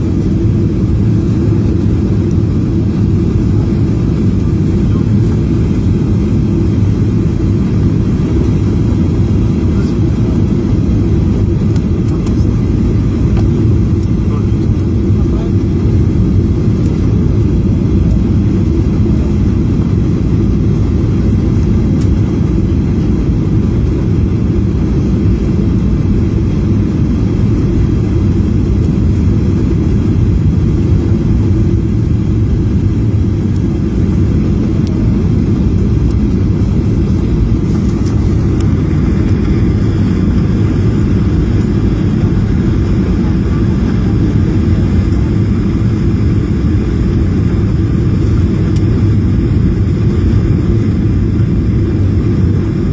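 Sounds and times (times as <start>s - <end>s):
jet cabin engine rumble: 0.0s - 52.9s.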